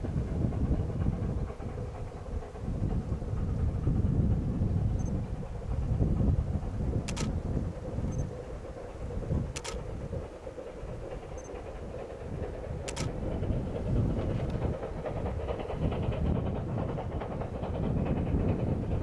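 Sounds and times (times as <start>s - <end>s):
steam train rumbling: 0.0s - 19.0s
train wheels clattering: 0.0s - 19.0s.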